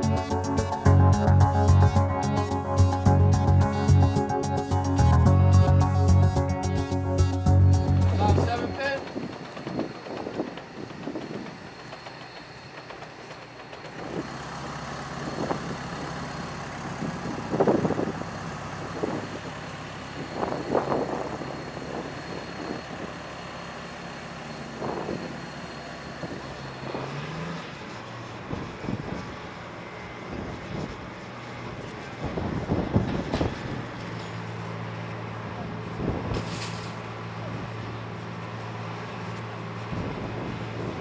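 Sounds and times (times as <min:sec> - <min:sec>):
tow tractor engine running: 0:00.0 - 0:41.0.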